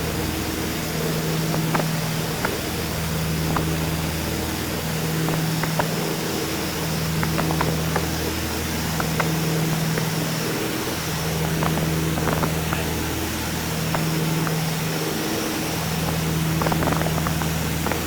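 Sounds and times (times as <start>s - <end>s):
propeller engines droning: 0.0s - 18.0s.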